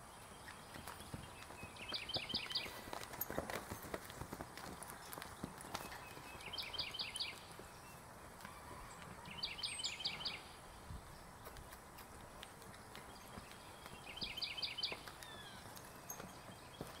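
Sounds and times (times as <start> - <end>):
horse hoofbeats on sand: 0.3 - 9.3, 11.4 - 17.0.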